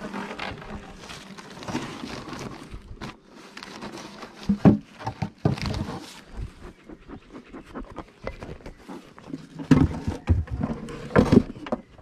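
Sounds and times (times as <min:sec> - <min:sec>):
rustling and scraping of boxes: 0:00.0 - 0:06.7, 0:07.9 - 0:12.0.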